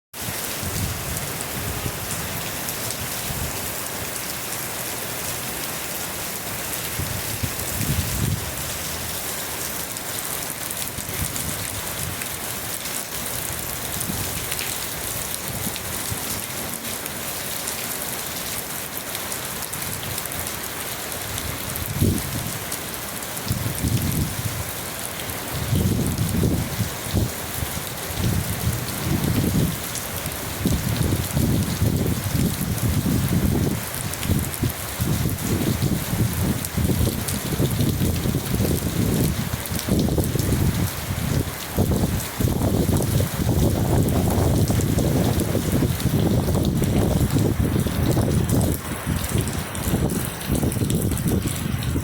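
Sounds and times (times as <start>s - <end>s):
rain falling: 0.2s - 52.0s.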